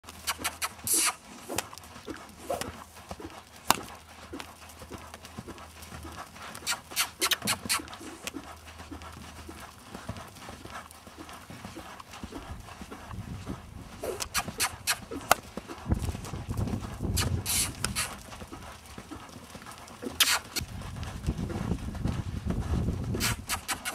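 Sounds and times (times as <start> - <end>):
hoofbeats on sand: 0.0 - 23.9.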